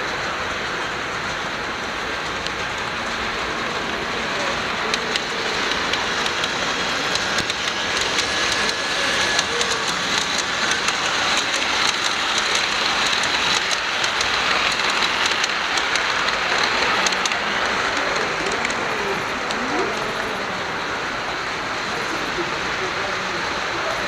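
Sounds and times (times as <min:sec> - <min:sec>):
model train rolling on track: 0:00.0 - 0:24.0.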